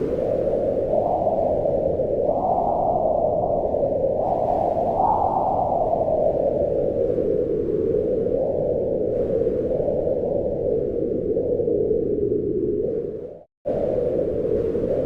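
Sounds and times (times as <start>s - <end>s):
wind blowing in gusts: 0.0s - 15.0s.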